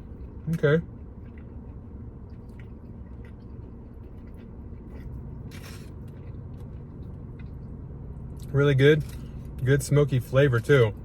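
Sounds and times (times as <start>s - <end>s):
person chewing: 0.0s - 9.6s
low steady hum: 0.0s - 11.0s.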